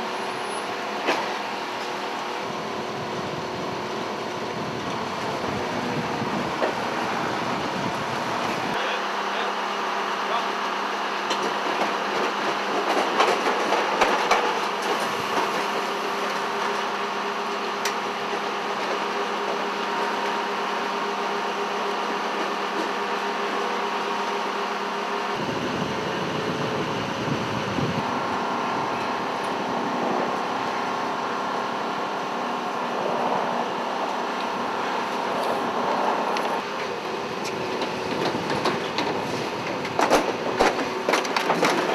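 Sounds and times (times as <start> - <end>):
turboprop engines droning: 0.0 - 41.9.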